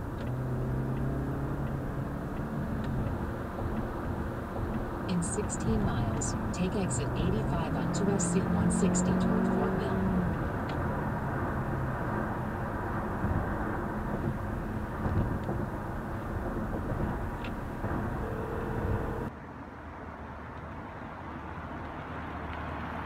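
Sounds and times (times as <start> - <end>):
low steady rumble: 0.0 - 19.4
car road and tyre noise: 0.0 - 23.0.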